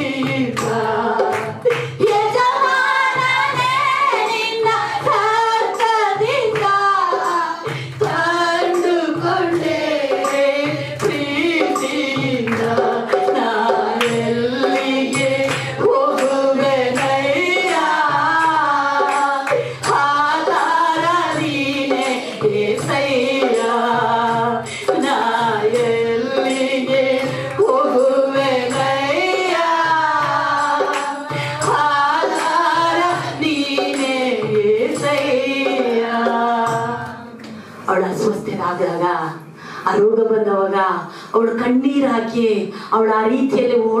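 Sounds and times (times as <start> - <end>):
low accompanying beat: 0.0 - 37.4.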